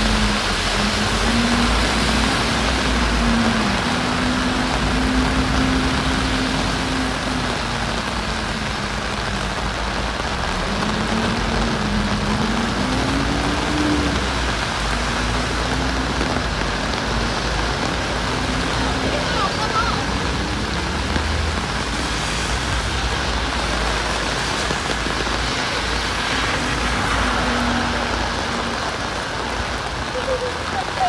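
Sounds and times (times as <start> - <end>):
heavy rain on pavement: 0.0 - 31.0.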